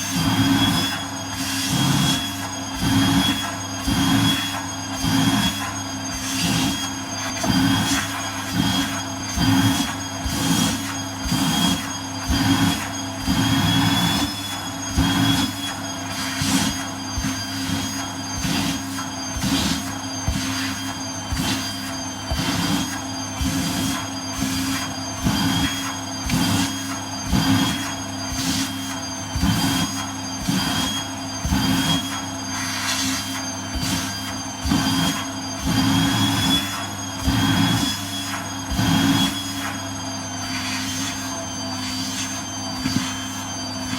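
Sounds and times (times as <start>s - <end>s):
vacuum cleaner whining: 0.0s - 43.9s.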